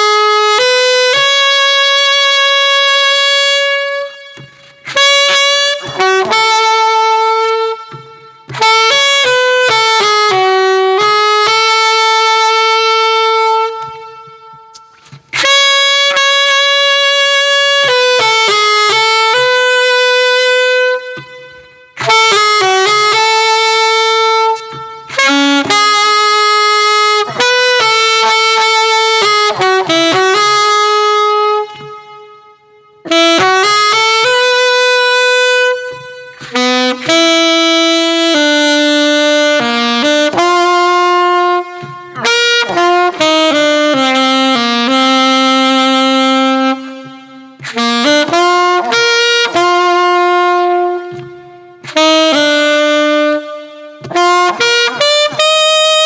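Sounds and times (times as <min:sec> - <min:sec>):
saxophone playing slow melody: 0:00.0 - 0:56.0.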